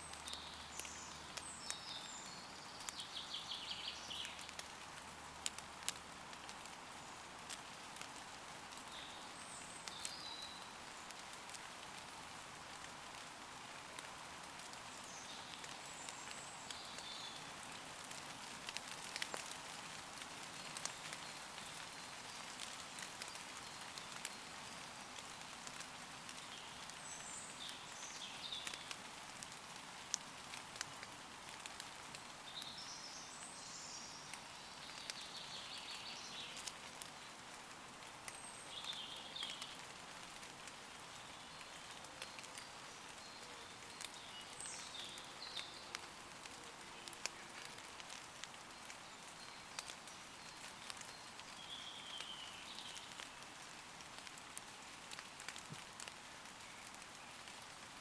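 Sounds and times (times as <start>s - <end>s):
light rain on leaves: 0.0s - 58.0s.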